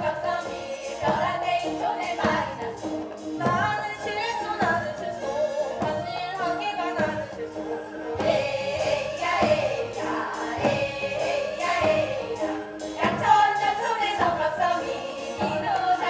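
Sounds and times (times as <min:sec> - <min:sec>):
woman singing: 0:00.0 - 0:02.8, 0:03.4 - 0:16.0.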